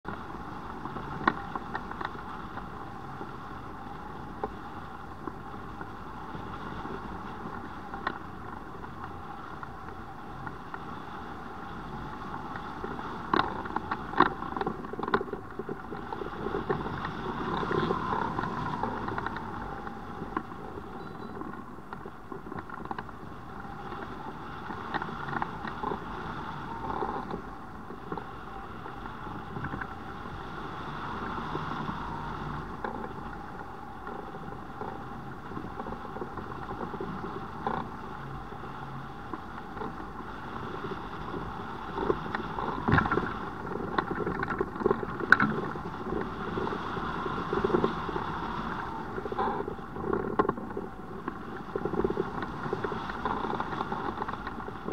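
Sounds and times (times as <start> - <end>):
wind rushing over glider: 0.0 - 54.9.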